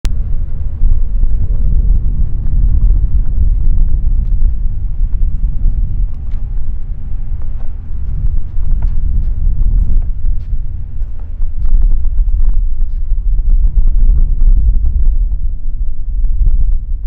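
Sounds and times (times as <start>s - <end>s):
helicopter engine rumble: 0.0s - 17.0s
wind buffeting microphone: 0.0s - 17.0s.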